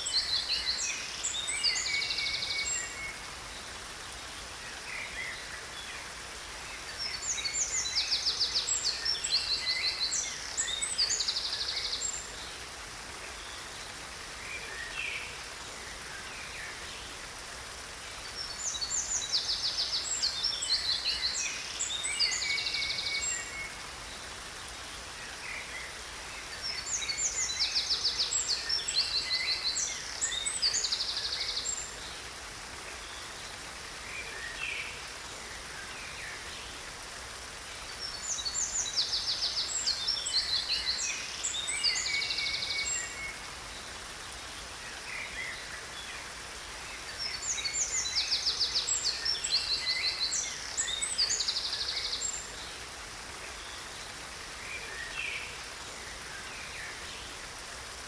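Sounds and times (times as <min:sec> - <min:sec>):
songbirds trilling and chirping: 0:00.0 - 0:58.0
waterfall rushing: 0:00.0 - 0:58.0.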